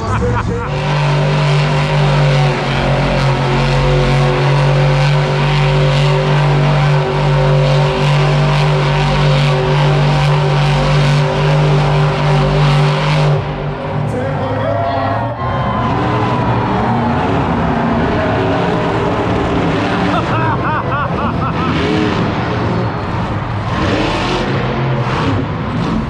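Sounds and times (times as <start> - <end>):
truck engine revving high: 0.0 - 26.0.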